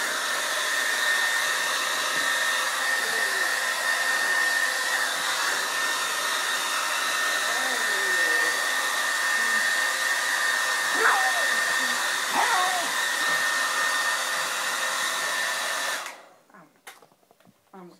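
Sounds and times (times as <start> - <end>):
hair dryer running: 0.0 - 16.4.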